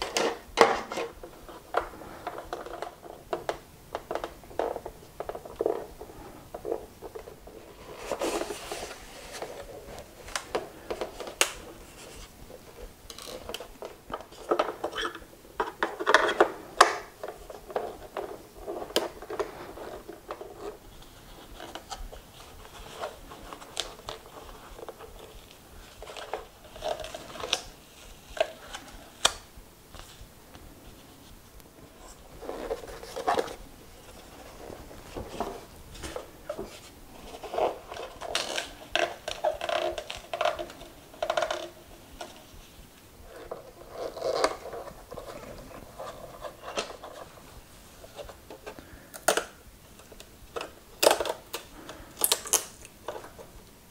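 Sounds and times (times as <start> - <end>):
plastic panels being handled: 0.0 - 53.9.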